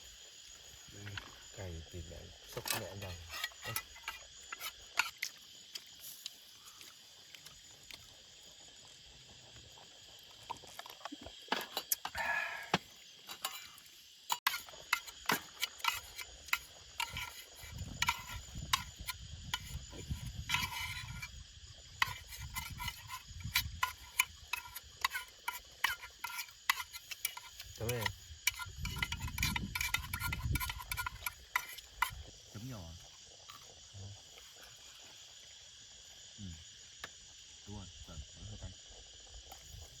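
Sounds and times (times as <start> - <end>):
night insects trilling: 0.0 - 40.0.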